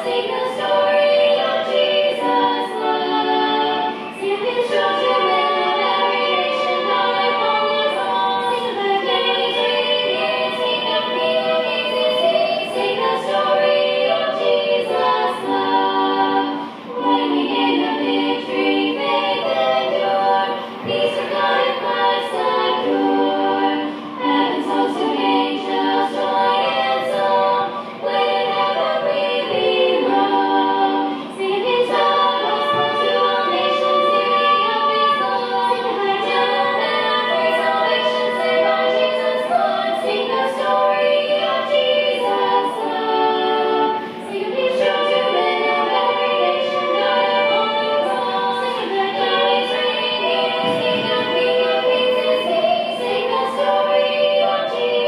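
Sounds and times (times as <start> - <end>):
a cappella gospel singing: 0.0 - 55.0.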